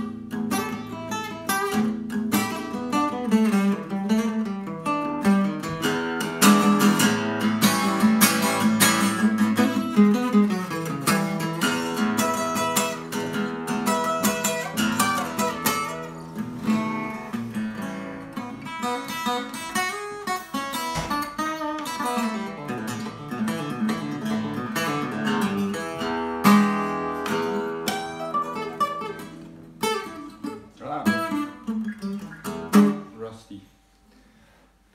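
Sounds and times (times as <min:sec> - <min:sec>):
acoustic guitar blues: 0:00.0 - 0:34.4.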